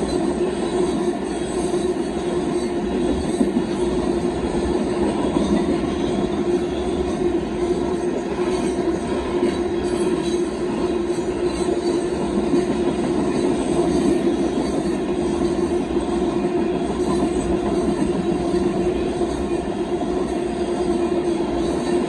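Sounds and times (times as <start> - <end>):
steel wheels rushing on rail: 0.0 - 22.0.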